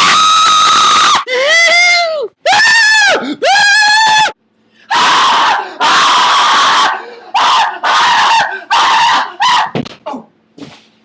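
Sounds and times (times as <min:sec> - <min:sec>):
young men screeching hoarsely: 0:00.0 - 0:09.8.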